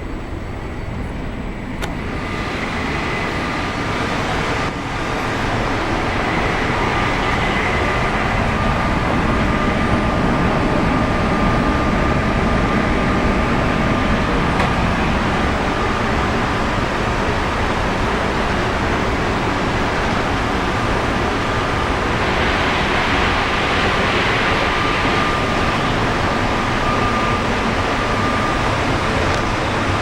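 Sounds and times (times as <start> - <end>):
faint high whine: 0.0 - 30.0
train cabin rumble and hiss: 0.0 - 30.0.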